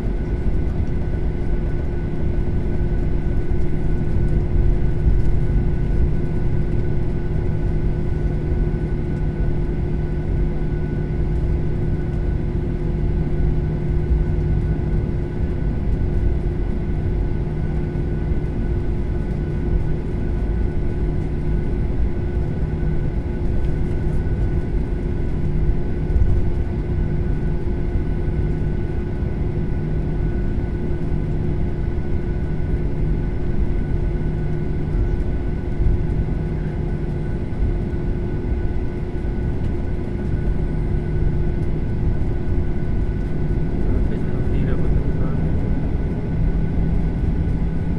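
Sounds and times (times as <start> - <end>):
cabin low rumble: 0.0 - 47.9
jet engine whine: 0.0 - 47.9.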